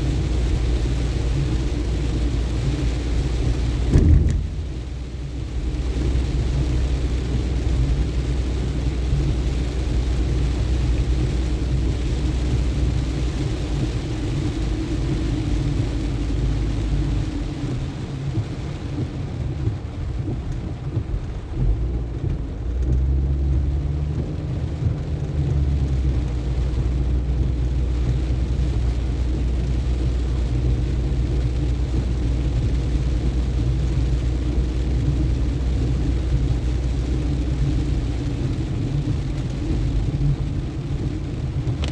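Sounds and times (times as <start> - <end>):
engine and tyres rumble: 0.0 - 41.9
rain hissing: 0.0 - 41.9.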